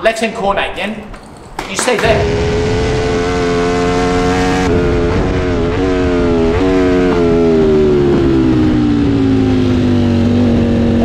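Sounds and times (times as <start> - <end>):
motorcycle engine running hard: 2.0 - 11.0.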